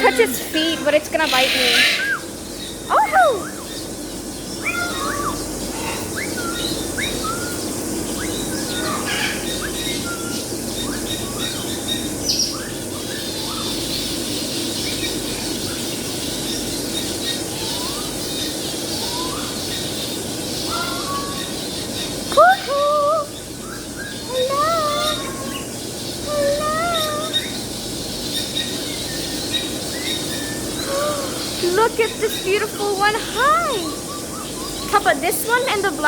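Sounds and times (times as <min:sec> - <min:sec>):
parrots chirping and squawking: 0:00.0 - 0:36.0.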